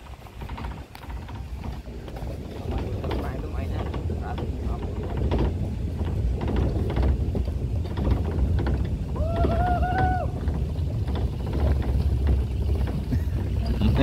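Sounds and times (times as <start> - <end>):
truck body rattling and clicking: 0.0 - 14.0
truck engine and wind rumble: 0.0 - 14.0.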